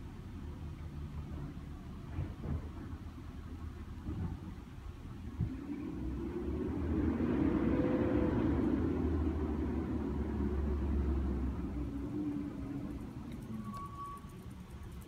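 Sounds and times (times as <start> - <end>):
vehicle passing by rumble: 0.9 - 15.0.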